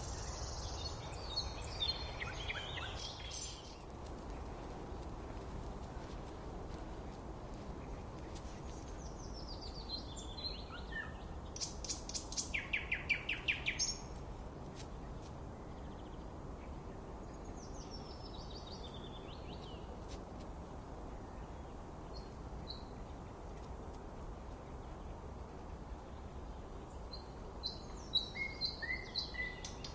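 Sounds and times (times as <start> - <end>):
songbirds singing: 0.0 - 14.2, 14.8 - 20.0, 21.1 - 29.9.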